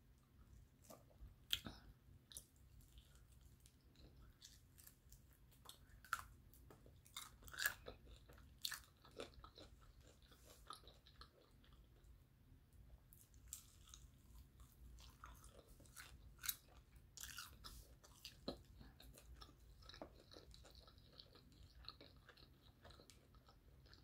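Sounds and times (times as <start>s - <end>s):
chewing crunchy fried chicken: 0.5s - 12.3s, 13.1s - 24.0s.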